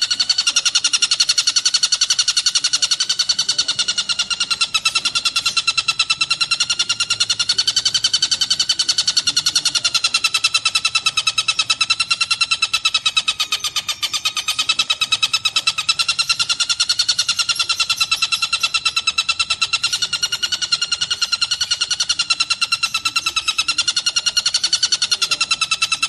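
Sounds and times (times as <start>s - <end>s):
bird calling in rapid trill: 0.0s - 26.0s.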